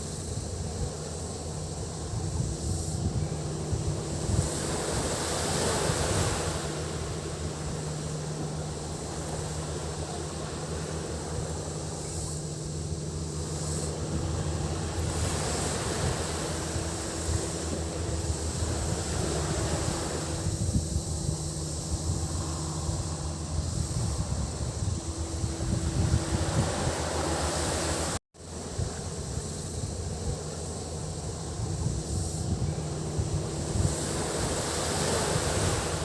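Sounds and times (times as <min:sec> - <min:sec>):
cicadas buzzing: 0:00.0 - 0:36.0
sea waves washing onto beach: 0:00.0 - 0:36.0
steady low hum: 0:00.0 - 0:36.0.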